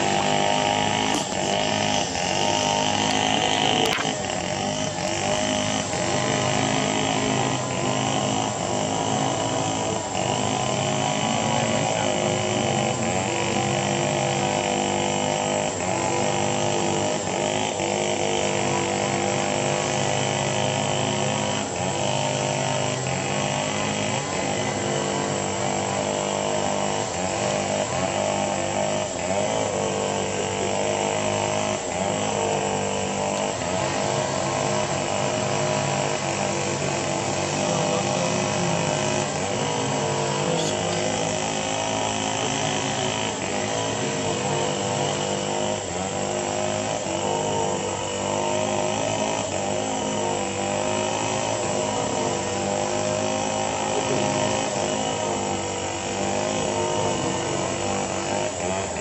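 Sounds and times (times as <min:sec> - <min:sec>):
motor-like drone: 0:00.0 - 0:59.0.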